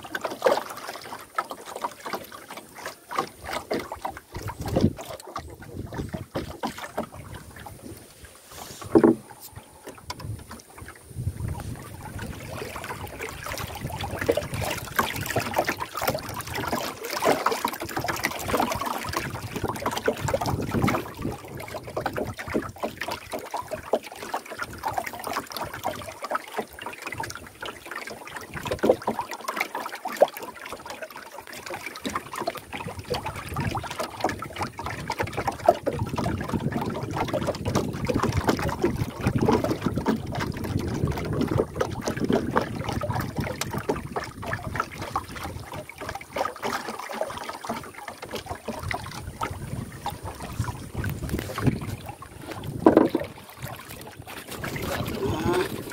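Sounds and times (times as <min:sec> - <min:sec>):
water lapping against boat hull: 0:00.0 - 0:55.9.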